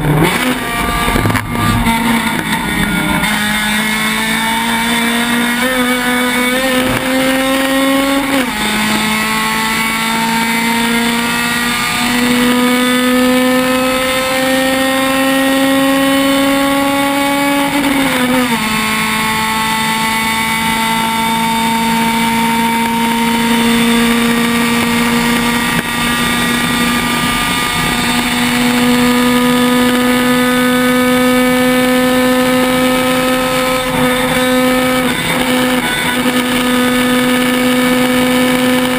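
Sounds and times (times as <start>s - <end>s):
race car engine at full throttle: 0.0s - 38.9s.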